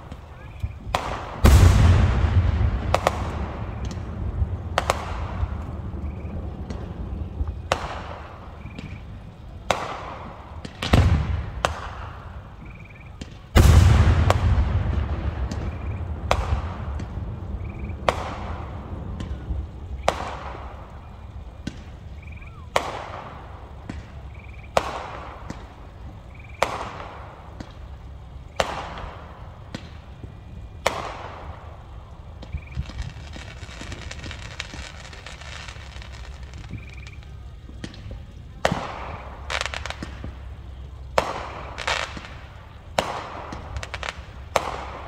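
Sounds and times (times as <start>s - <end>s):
firework crackle: 0.0s - 45.0s
firework shells bursting: 0.0s - 45.0s
small firework pops: 0.0s - 45.0s.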